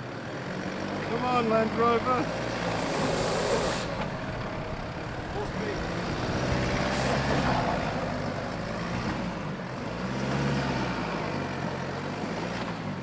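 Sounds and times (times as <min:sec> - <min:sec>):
car engine pulling under load: 0:00.0 - 0:13.0.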